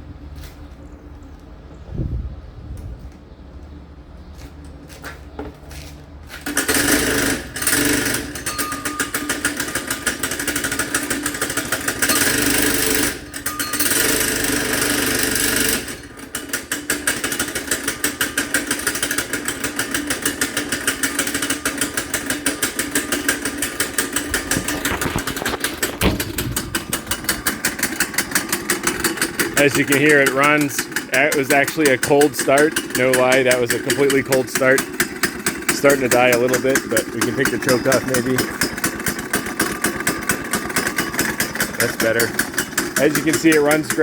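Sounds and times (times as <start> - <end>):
small engine starting and running: 6.3 - 44.0.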